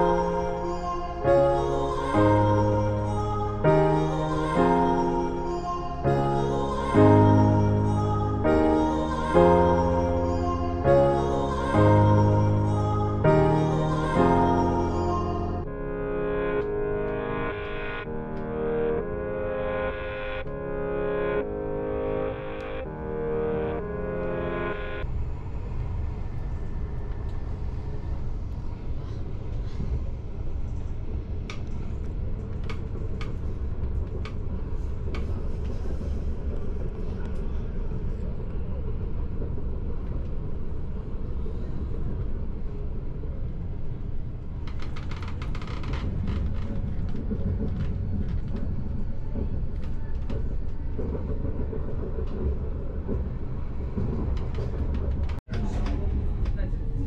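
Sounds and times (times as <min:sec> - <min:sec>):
train rumbling on track: 0:00.0 - 0:15.8, 0:25.0 - 0:57.0.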